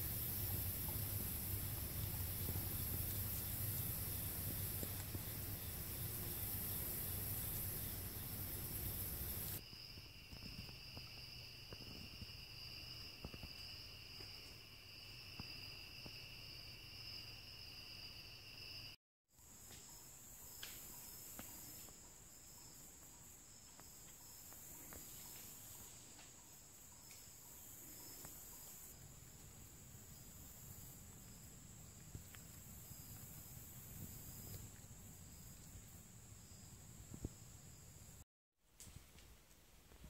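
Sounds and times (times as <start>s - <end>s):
insects trilling: 0.0s - 38.2s.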